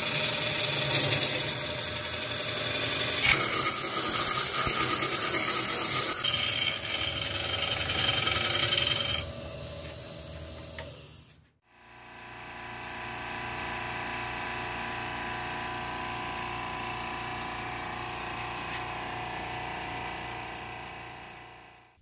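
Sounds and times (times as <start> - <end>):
wood lathe motor whine: 0.0 - 22.0.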